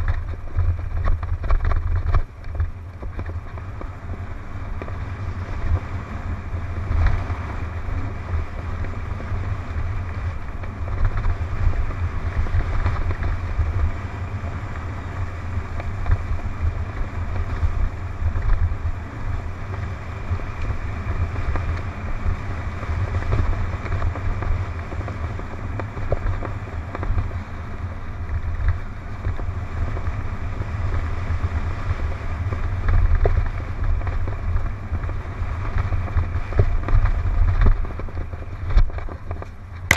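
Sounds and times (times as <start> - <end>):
mountain bike rumble and rattle: 0.0 - 39.9
wind noise on microphone: 0.0 - 39.9.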